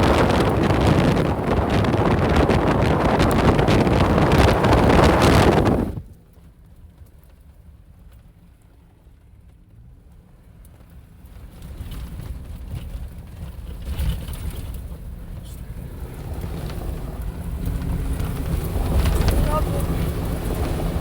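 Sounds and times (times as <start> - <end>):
off-road engine rumble: 0.0 - 21.0.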